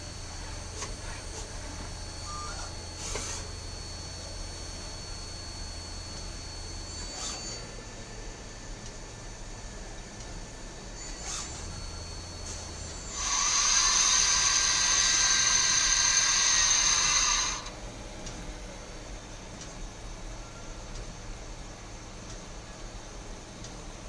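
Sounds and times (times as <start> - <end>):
lathe high-pitched whine: 0.0 - 24.0
low machine hum: 0.0 - 24.0.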